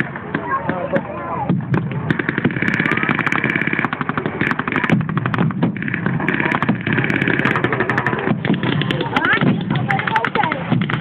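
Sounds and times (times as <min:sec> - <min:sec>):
blank gunfire bursts: 0:00.0 - 0:11.0
vehicle engines running: 0:00.0 - 0:11.0.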